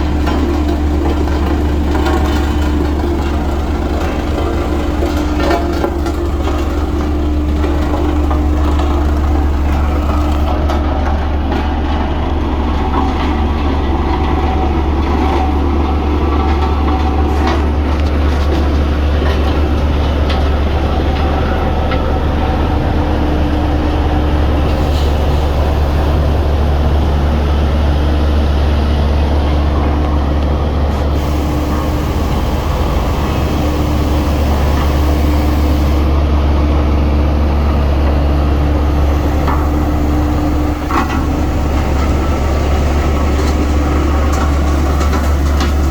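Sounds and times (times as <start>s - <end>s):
mid-pitched hum: 0.0s - 11.3s, 18.6s - 45.9s
diesel engine droning: 0.0s - 45.9s.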